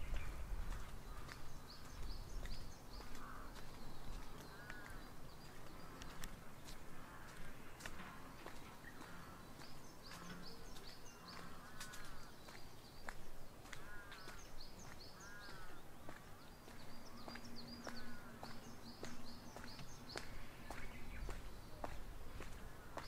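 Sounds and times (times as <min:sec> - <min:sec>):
birds chirping: 0:00.0 - 0:23.0
lower arching bird calls: 0:00.0 - 0:23.0
soft footsteps: 0:00.0 - 0:23.0.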